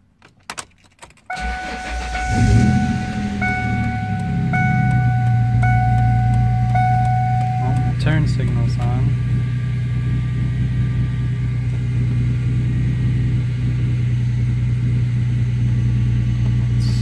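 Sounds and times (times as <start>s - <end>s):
car engine idling: 1.3s - 17.0s.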